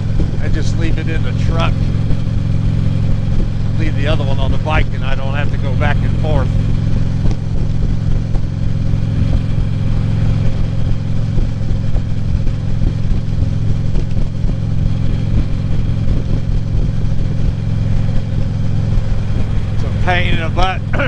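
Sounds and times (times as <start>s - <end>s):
road and wind noise: 0.0s - 21.0s
vehicle engine running: 0.0s - 21.0s.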